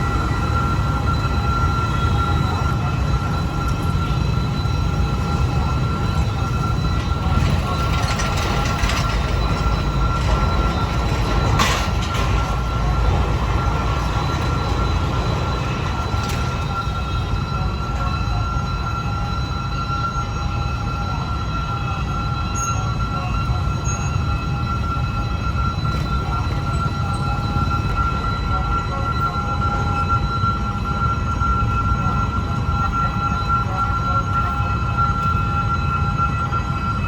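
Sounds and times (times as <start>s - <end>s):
train rumbling past: 0.0s - 34.6s
train wheels squealing: 0.0s - 37.0s.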